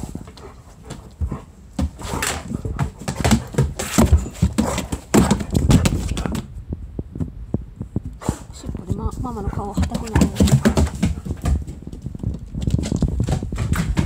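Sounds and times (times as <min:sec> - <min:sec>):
animals scuffling and thumping: 0:00.0 - 0:14.0.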